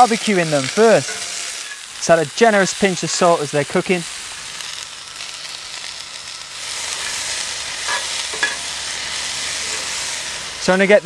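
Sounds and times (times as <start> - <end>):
beans sizzling in oil: 0.0 - 11.0.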